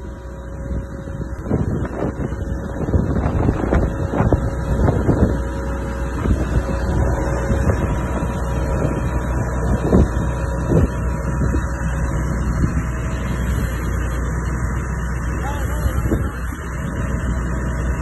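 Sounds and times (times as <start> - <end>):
engine idling: 0.0 - 18.0
wind buffeting microphone: 0.0 - 18.0.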